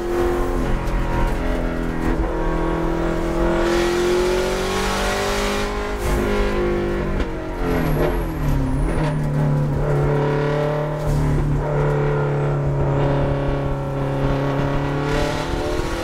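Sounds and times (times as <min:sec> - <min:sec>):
turbocharged car engine accelerating: 0:00.0 - 0:16.0.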